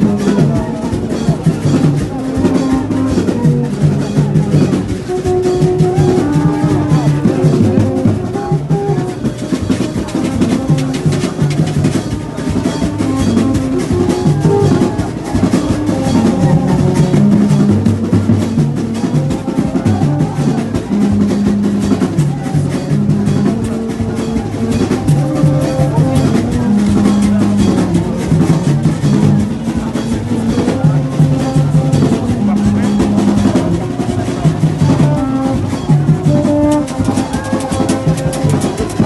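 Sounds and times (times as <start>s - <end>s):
fast dense drumming: 0.0s - 39.0s
low melodic line: 0.0s - 39.0s.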